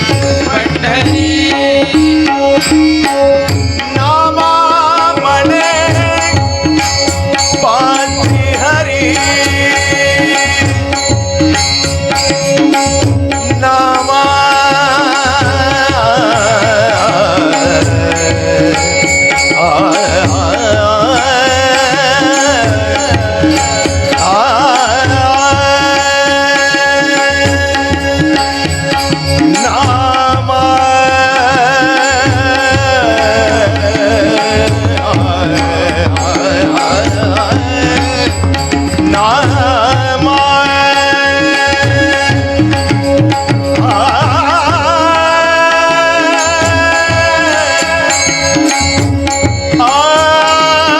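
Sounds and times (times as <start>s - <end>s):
ornamented devotional melody: 0.0s - 50.9s.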